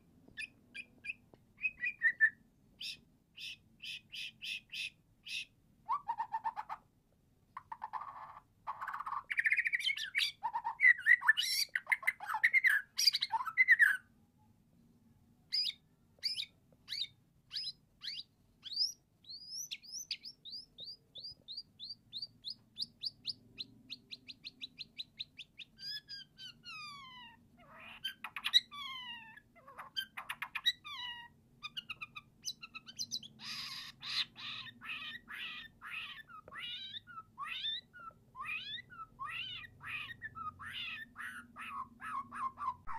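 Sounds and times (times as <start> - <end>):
songbird singing: 0.0 - 6.8, 7.6 - 14.1, 15.5 - 42.9.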